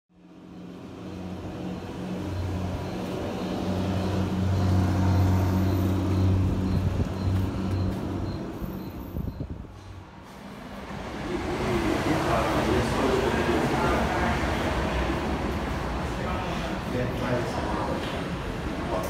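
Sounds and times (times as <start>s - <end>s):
diesel engine humming: 0.3s - 18.9s.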